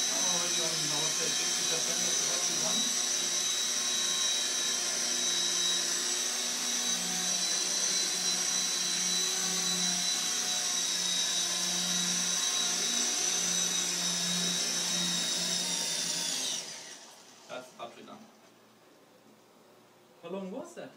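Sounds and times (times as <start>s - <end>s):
electric motor whine: 0.0s - 17.5s
rotor blades whirring: 0.0s - 18.0s.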